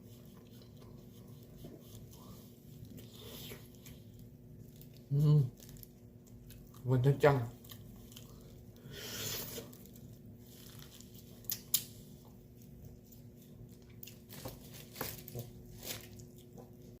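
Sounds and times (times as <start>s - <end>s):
person chewing meat: 0.0s - 14.6s, 15.2s - 17.0s.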